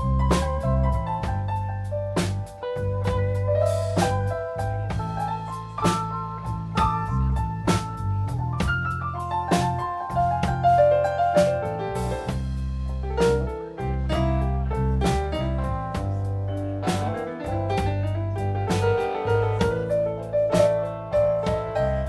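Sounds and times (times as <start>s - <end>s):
blues band playing: 0.0s - 22.0s.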